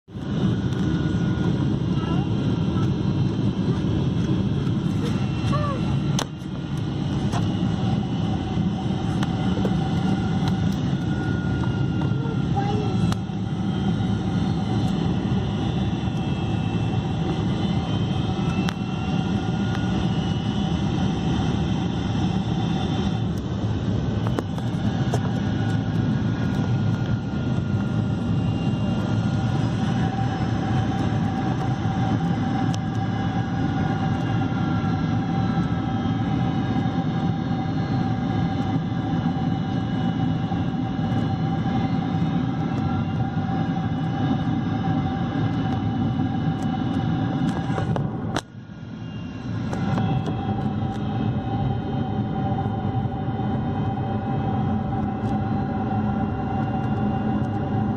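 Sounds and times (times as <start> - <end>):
airplane cabin roar: 0.1 - 57.9
steady whine: 0.1 - 57.9.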